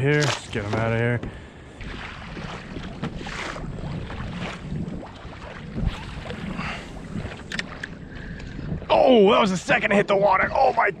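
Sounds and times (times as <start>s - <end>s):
water splashing around kayak: 0.0s - 11.0s
wind noise on microphone: 0.4s - 11.0s.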